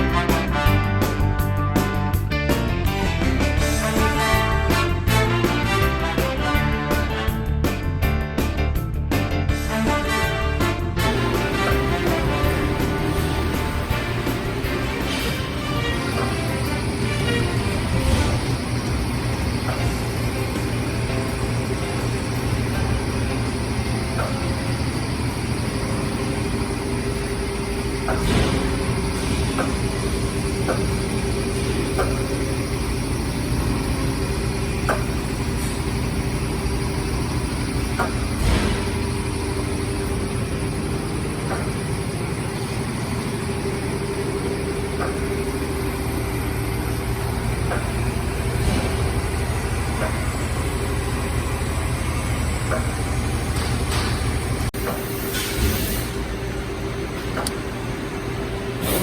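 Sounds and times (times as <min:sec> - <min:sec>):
punch press machine hum: 0:00.0 - 0:59.0.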